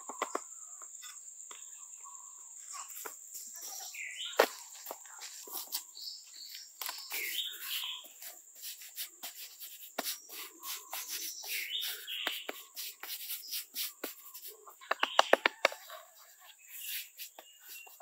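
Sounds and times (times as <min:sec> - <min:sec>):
hands scooping loose soil: 0:02.8 - 0:18.0.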